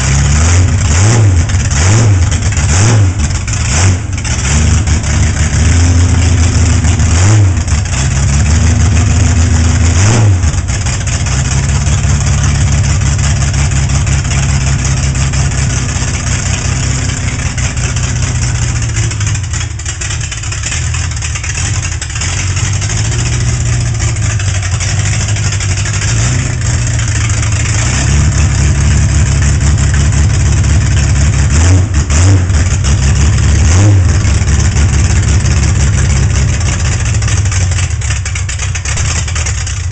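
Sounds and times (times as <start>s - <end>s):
car engine idling with throttle blips: 0.0s - 39.9s.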